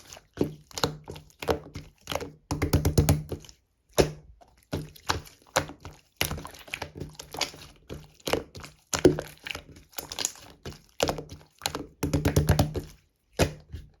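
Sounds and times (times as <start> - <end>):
slime squished by hand: 0.0 - 14.0.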